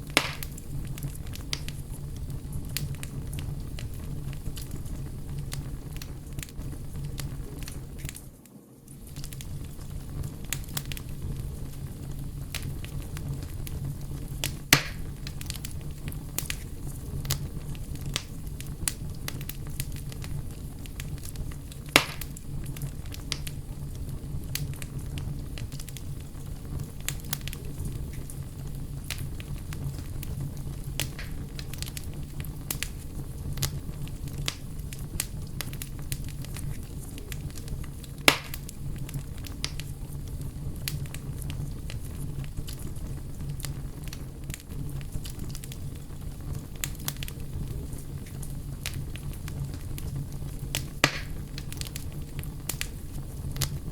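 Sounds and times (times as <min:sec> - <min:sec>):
loud sharp fire pops: 0:00.0 - 0:08.3, 0:08.9 - 0:53.9
campfire crackling: 0:00.0 - 0:53.9.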